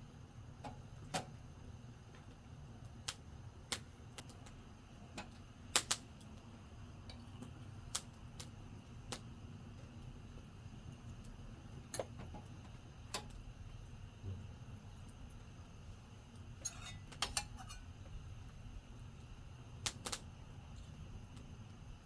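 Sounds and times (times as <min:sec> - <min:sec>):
low steady background noise: 0:00.0 - 0:22.0
wood campfire crackling: 0:00.1 - 0:22.0.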